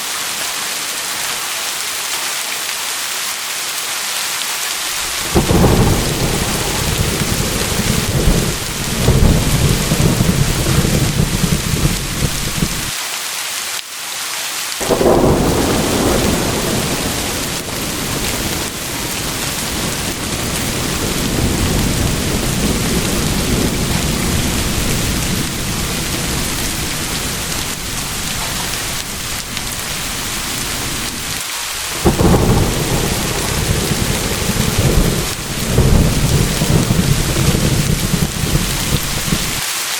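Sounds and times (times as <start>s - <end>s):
heavy rain: 0.0s - 39.9s
thunder rumbling: 4.9s - 12.9s, 14.8s - 39.6s.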